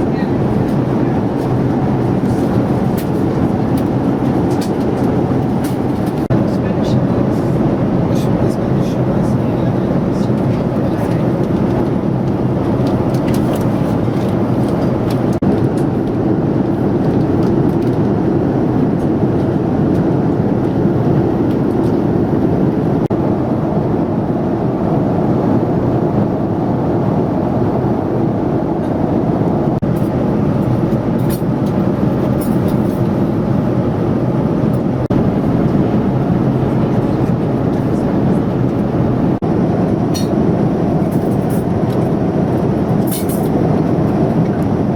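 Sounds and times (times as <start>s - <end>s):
airliner engine rumble in cabin: 0.0s - 44.9s.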